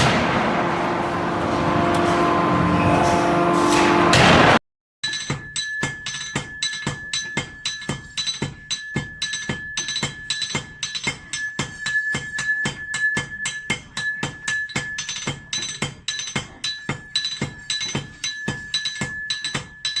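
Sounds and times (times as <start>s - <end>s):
hammer striking metal: 0.0s - 20.0s.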